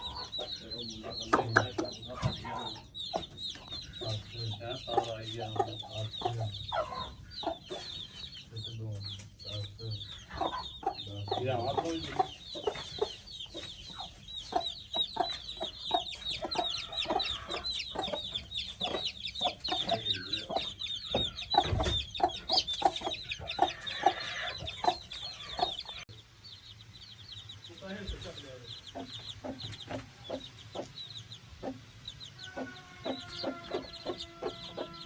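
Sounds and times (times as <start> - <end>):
chicks peeping: 0.0 - 35.0
hen clucking: 0.0 - 35.0.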